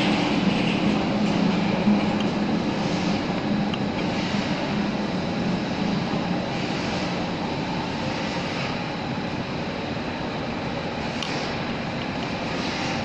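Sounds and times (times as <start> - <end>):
mechanical rumble and hiss: 0.0 - 13.0.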